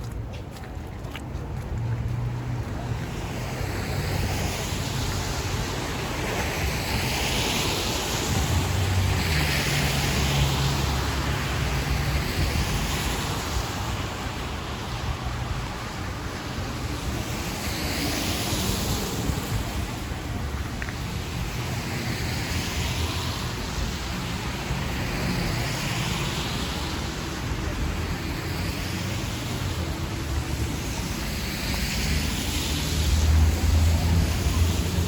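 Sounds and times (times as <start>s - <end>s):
vehicles passing with tyre hiss: 0.0s - 35.0s.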